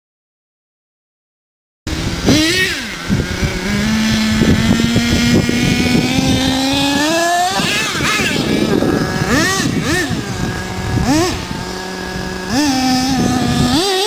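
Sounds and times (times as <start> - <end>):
small two-stroke engine revving: 1.9 - 14.0.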